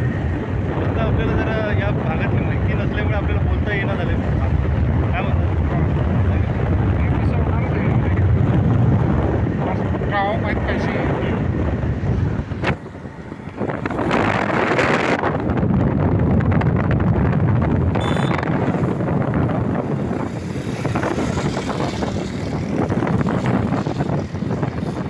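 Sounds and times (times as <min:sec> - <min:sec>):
steady low rumble: 0:00.0 - 0:25.0
wind buffeting microphone: 0:00.0 - 0:25.0.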